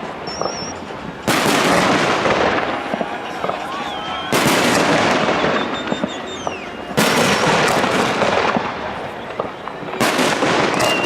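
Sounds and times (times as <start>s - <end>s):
firework shells bursting and crackling: 0.0s - 11.0s.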